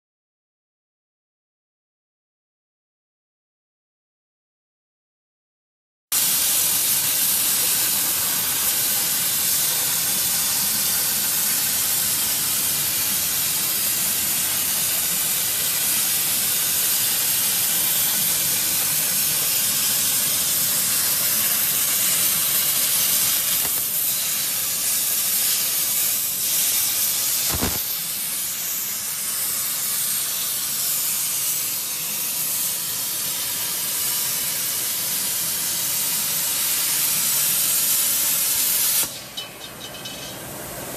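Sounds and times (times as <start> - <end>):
plasma arc hissing: 6.2 - 39.3.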